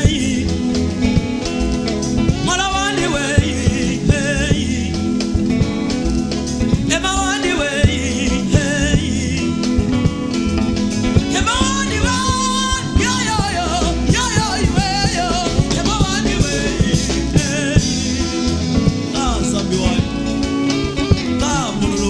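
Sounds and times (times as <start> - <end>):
man singing into a microphone: 0.0 - 6.0, 6.6 - 10.5, 11.1 - 22.0
live band playing gospel song: 0.0 - 22.0.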